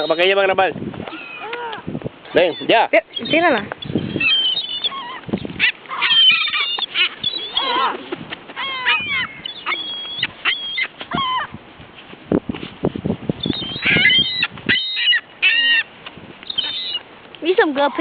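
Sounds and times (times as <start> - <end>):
seagulls calling: 0.0 - 0.5, 1.1 - 11.6, 13.4 - 18.0.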